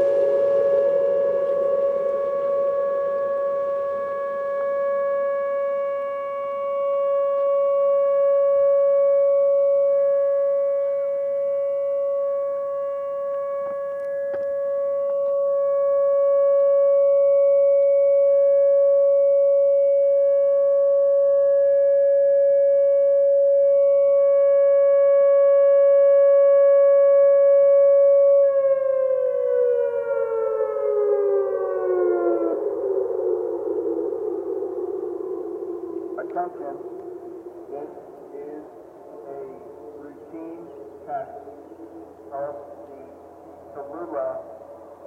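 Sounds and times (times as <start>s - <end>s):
warning siren steady tone: 0.0s - 45.0s.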